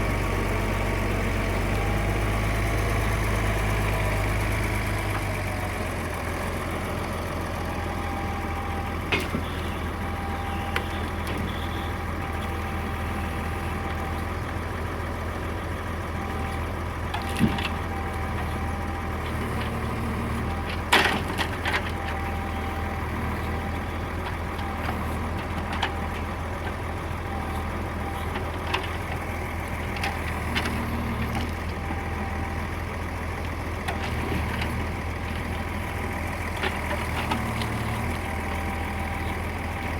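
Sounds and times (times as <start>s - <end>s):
crane engine running: 0.0s - 39.9s.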